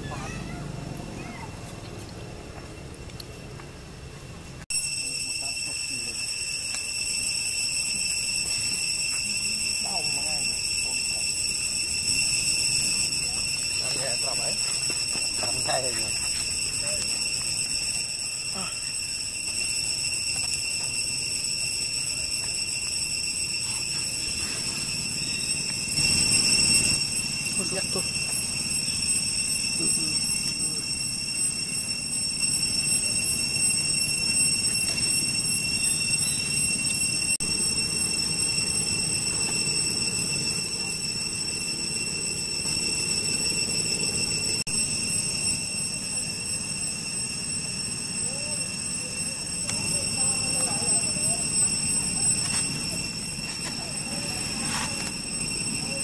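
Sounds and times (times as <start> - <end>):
cicadas chorus: 0.0 - 56.0
insects droning: 0.0 - 56.0.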